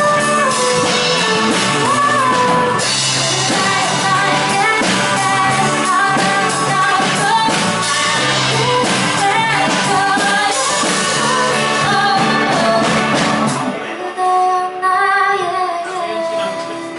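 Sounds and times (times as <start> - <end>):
live band playing: 0.0 - 16.9
woman singing: 0.0 - 16.9.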